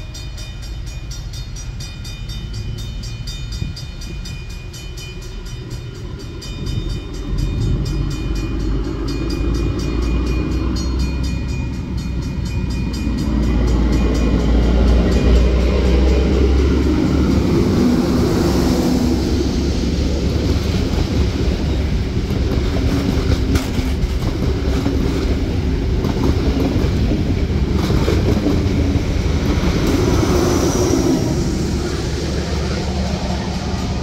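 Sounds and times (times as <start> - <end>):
diesel train engine running: 0.0 - 34.0
train carriages rumbling on rails: 0.0 - 34.0.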